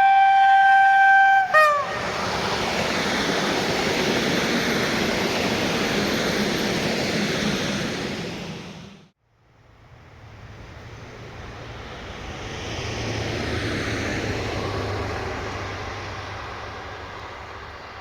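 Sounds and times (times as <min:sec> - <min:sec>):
train passing by: 0:00.0 - 0:18.0.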